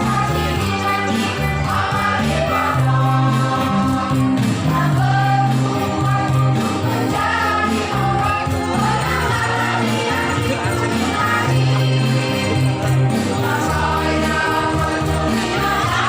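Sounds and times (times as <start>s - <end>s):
choir singing in unison: 0.0s - 16.0s
instrumental accompaniment: 0.0s - 16.0s.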